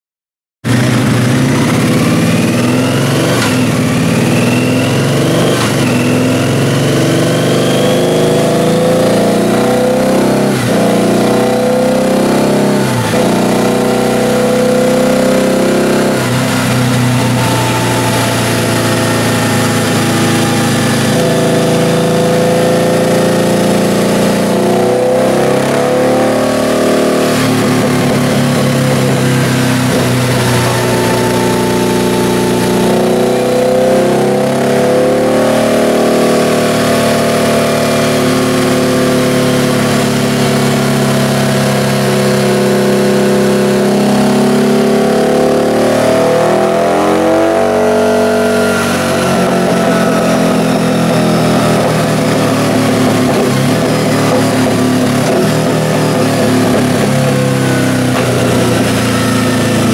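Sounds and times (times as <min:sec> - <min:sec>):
motorcycle engine revving: 0:00.6 - 0:59.9.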